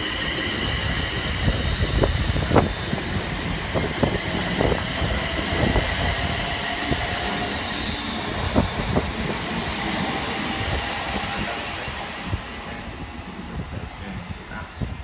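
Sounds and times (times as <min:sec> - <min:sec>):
electric train rumbling past: 0:00.0 - 0:15.0
wind buffeting microphone: 0:00.0 - 0:15.0.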